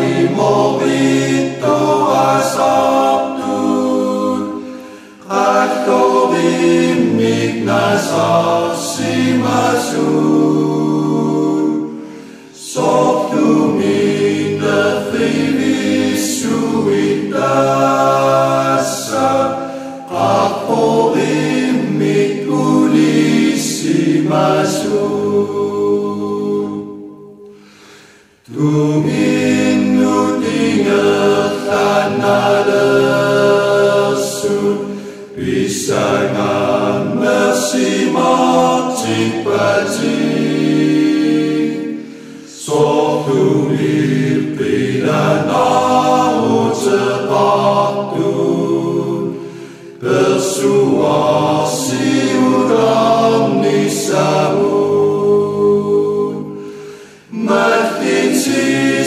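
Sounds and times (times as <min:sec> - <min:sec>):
voices singing together: 0:00.0 - 0:59.0.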